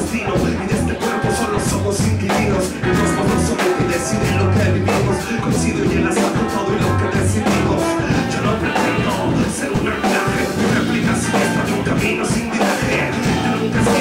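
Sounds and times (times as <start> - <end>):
live band with saxophones and guitar: 0.0 - 14.0.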